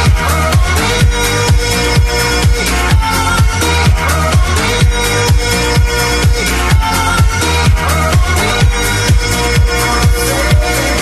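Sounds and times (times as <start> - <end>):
electronic dance music: 0.0 - 11.0
steady kick drum: 0.0 - 11.0.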